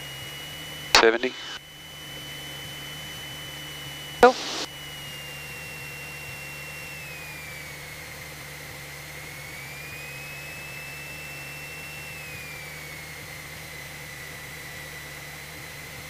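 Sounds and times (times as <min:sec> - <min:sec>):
airplane engine and propeller drone: 0:00.0 - 0:16.0
high engine whine: 0:00.0 - 0:16.0.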